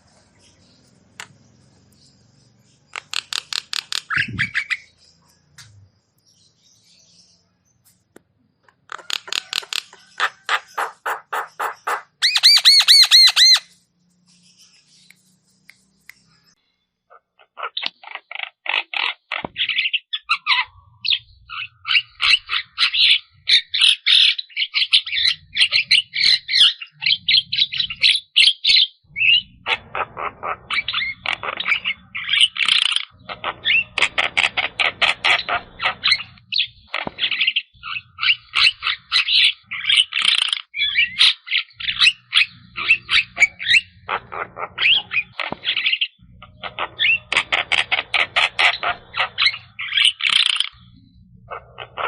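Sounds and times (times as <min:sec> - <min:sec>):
myna bird singing: 0:00.0 - 0:52.0.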